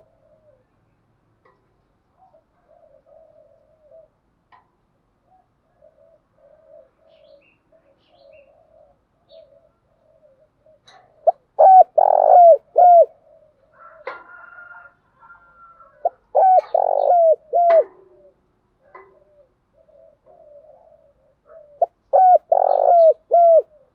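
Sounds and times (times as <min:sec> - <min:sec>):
dove cooing: 0:00.0 - 0:00.8, 0:01.4 - 0:04.6, 0:05.2 - 0:23.9.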